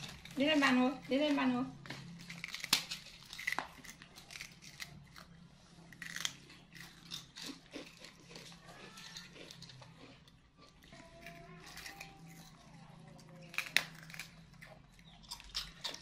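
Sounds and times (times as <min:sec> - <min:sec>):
monkeys chewing and crunching: 0:00.0 - 0:01.2, 0:01.9 - 0:16.0.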